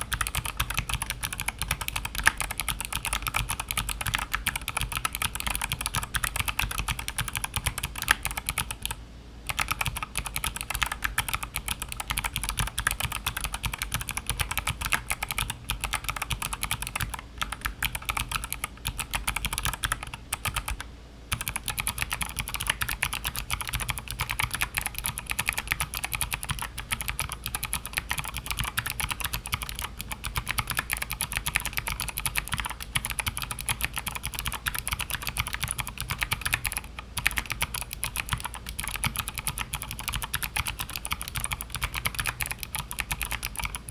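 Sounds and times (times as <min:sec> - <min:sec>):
mechanical keyboard typing: 0:00.0 - 0:43.9.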